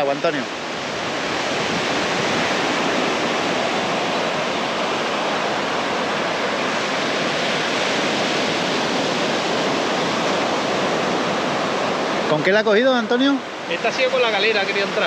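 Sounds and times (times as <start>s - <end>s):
sea surf on beach: 0.0s - 15.0s.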